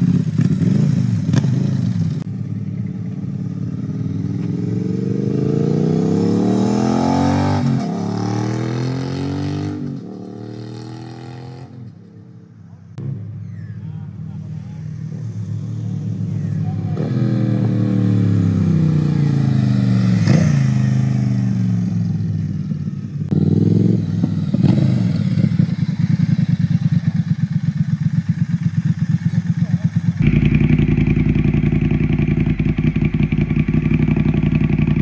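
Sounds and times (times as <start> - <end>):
motorcycle engine: 0.0 - 35.0.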